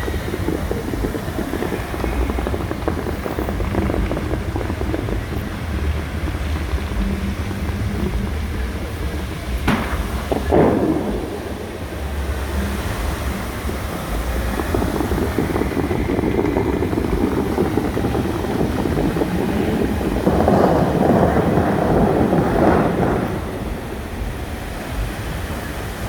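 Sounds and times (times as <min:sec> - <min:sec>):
fountain water jets rushing: 0:00.0 - 0:26.0
wind buffeting microphone: 0:00.0 - 0:26.0.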